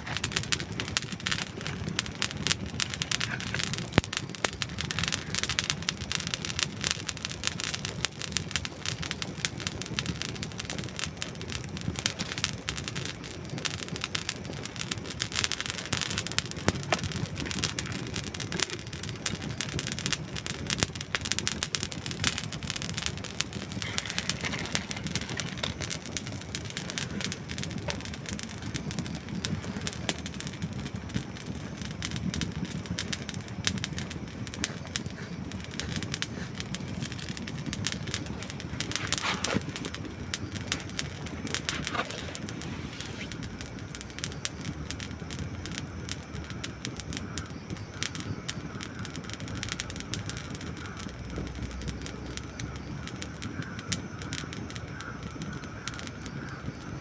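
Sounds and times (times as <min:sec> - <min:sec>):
flame rushing: 0:00.0 - 0:57.0
wood crackling and popping: 0:00.0 - 0:57.0.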